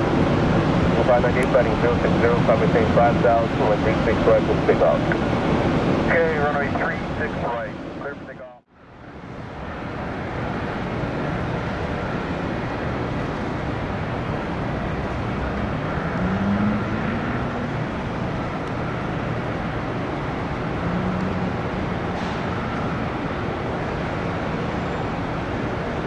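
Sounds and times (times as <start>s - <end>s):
jet engine rushing hum: 0.0s - 26.0s.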